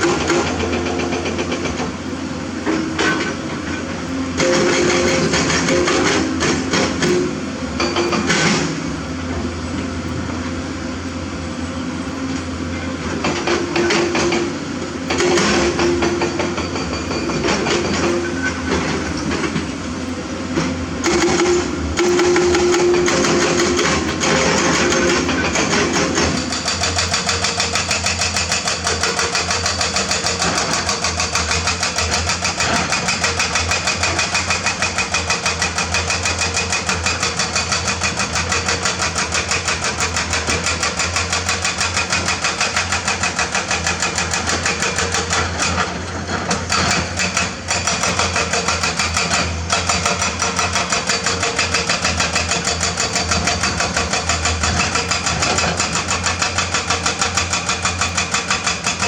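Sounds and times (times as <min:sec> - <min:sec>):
excavator diesel engine clattering: 0:00.0 - 0:59.0.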